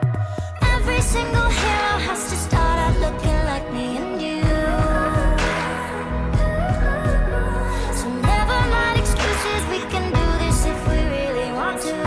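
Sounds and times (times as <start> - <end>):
deep bass beat: 0.0 - 3.8, 4.4 - 11.4
pop song: 0.0 - 12.0.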